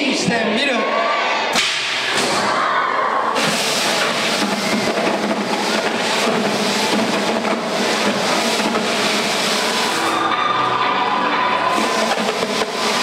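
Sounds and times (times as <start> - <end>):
crowd applauding and cheering: 2.0 - 13.0.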